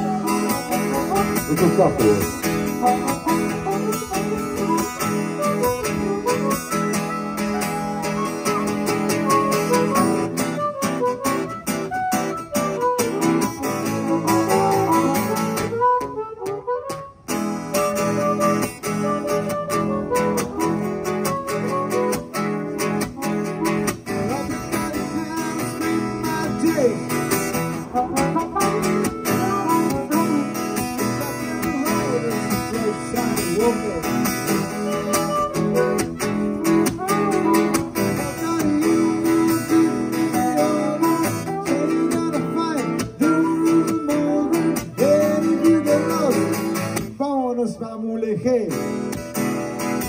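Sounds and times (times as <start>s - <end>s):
harmonica playing: 0.0s - 47.0s
strummed acoustic guitar: 0.0s - 50.0s.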